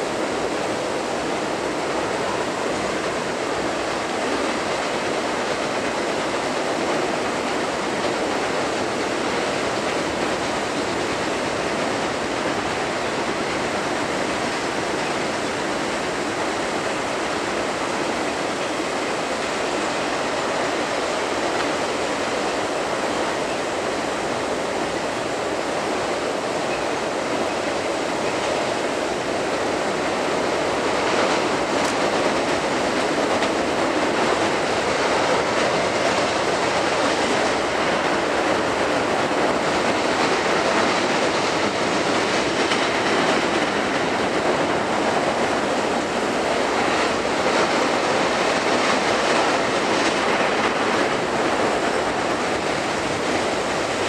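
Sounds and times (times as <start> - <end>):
freight train rolling over bridge: 0.0 - 54.0.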